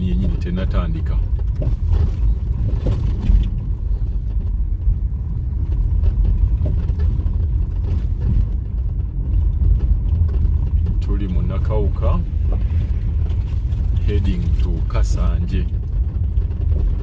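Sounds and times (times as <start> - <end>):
vehicle rumbling on unpaved road: 0.0 - 17.0.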